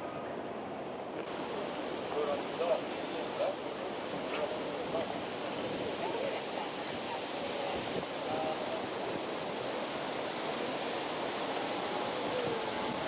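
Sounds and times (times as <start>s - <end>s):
outdoor ambient hiss: 0.0s - 13.0s
distant voices: 1.3s - 13.0s.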